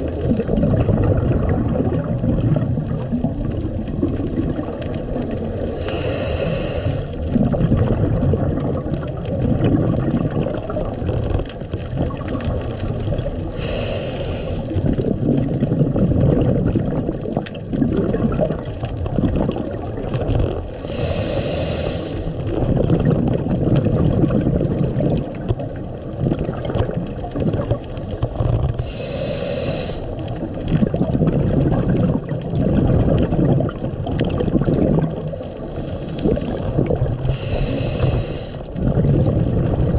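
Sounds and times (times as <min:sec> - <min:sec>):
diver exhaling bubbles: 0:00.0 - 0:39.9
low underwater rumble: 0:00.0 - 0:39.9.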